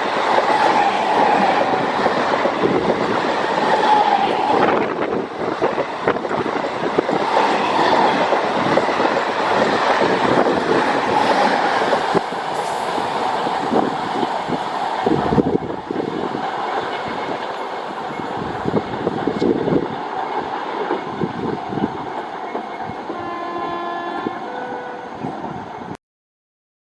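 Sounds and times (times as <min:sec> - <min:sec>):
train wheels clattering over rails: 0:00.0 - 0:23.3.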